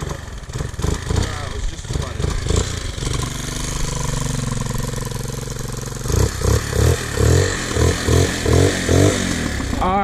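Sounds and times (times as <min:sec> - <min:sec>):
motorcycle engine idling: 0:00.0 - 0:10.0
motorcycle throttle blips: 0:00.0 - 0:10.0.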